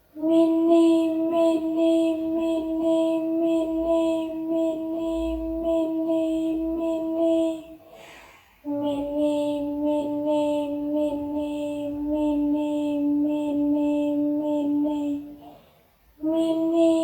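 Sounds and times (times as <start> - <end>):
high voice chanting: 0.0 - 17.0.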